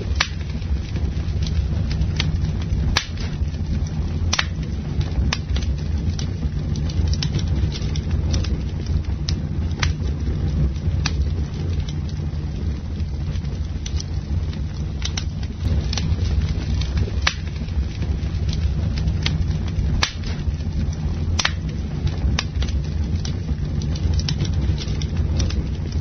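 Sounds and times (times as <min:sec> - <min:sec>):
low fire rumble: 0:00.0 - 0:26.0
wood crackling: 0:00.0 - 0:26.0.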